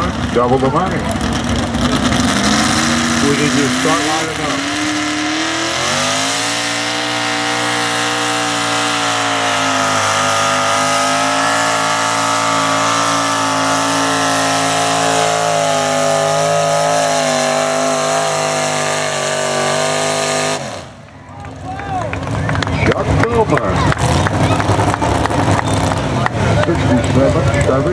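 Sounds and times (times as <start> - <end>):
truck engine at high revs: 0.0 - 27.9.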